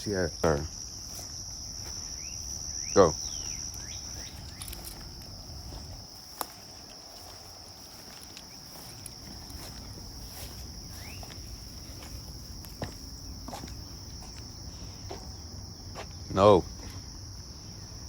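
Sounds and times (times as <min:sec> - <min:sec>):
insects chirring: 0:00.0 - 0:18.0
footsteps: 0:01.0 - 0:02.2, 0:03.4 - 0:17.1.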